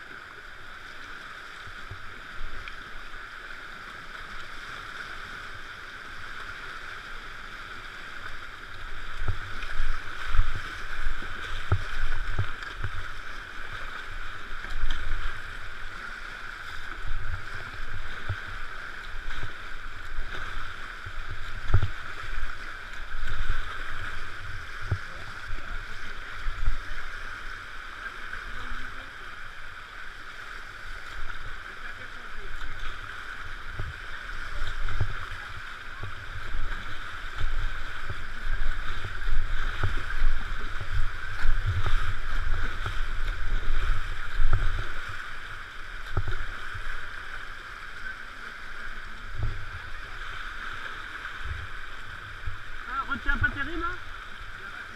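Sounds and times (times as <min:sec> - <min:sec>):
hull and paddle thumping waves: 0:00.0 - 0:54.9
whitewater rushing: 0:00.0 - 0:54.9.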